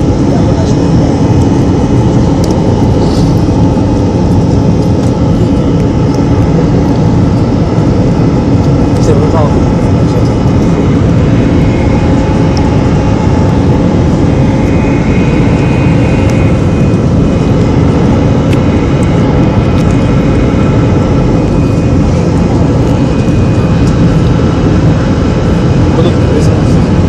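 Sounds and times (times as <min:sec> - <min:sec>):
faint high whine: 0:00.0 - 0:27.0
jet engine roar in cabin: 0:00.0 - 0:27.0.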